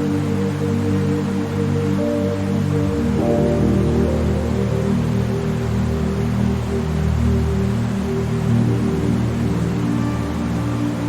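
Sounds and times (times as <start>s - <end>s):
low ambient music drone: 0.0s - 11.0s
rushing river water: 0.0s - 11.0s.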